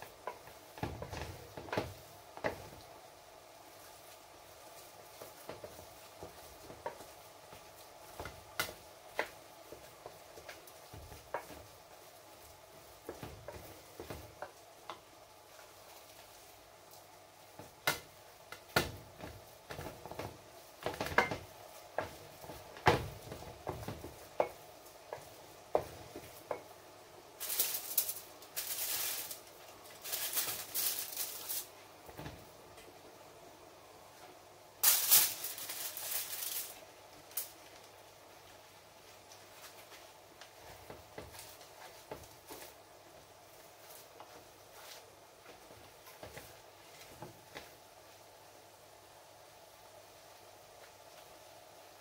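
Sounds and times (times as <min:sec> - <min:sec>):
rustling: 0:00.0 - 0:32.9, 0:34.0 - 0:48.3
faint steady hum: 0:00.0 - 0:52.0.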